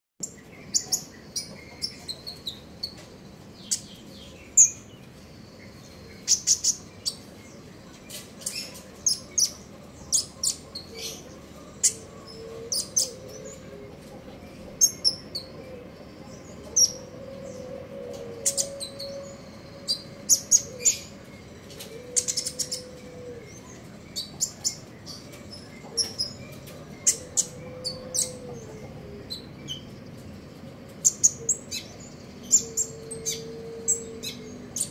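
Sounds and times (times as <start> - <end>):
sunbird chirping and twittering: 0.2 - 34.9.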